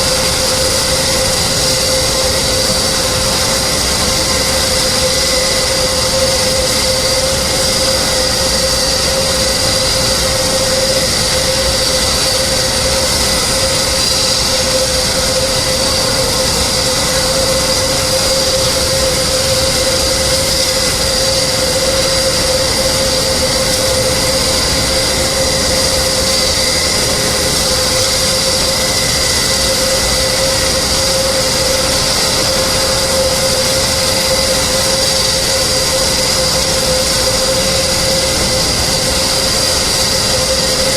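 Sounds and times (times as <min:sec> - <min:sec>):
jet engine whine and roar: 0:00.0 - 0:40.9.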